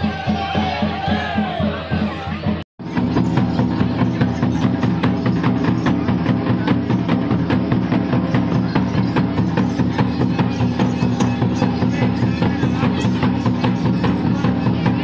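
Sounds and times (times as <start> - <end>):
fast even drumming: 0.0 - 15.0.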